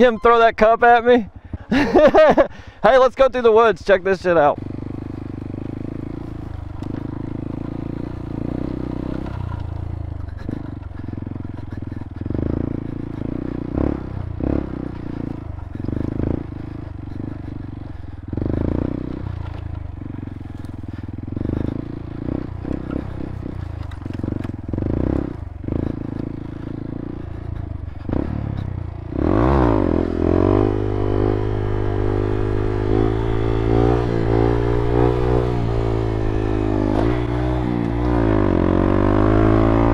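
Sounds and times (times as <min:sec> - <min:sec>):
motorcycle engine: 0:00.0 - 0:02.8, 0:03.4 - 0:39.9.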